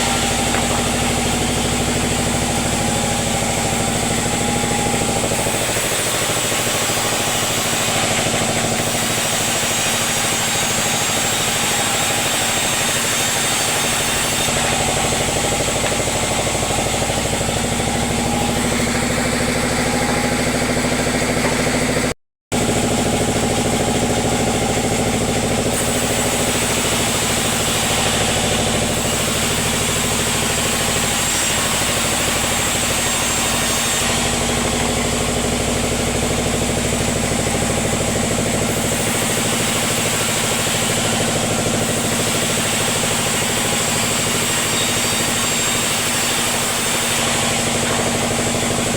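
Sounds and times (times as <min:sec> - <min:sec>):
sawmill engine droning: 0:00.0 - 0:48.9.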